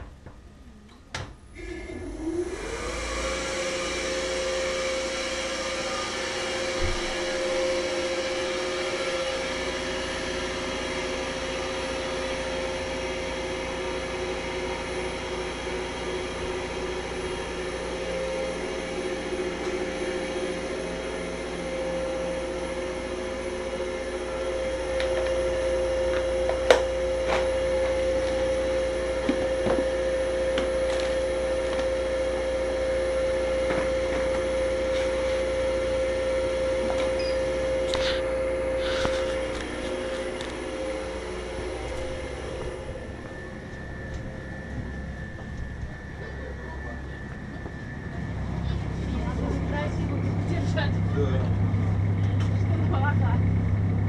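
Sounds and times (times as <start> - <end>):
vacuum cleaner motor whine: 0.0 - 54.0.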